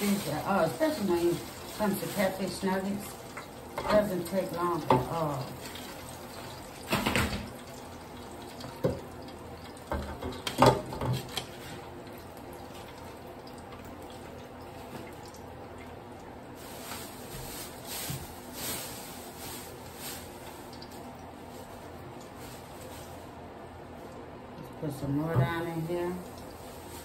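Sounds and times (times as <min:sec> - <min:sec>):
hot oil sizzling in fryer: 0:00.0 - 0:23.4.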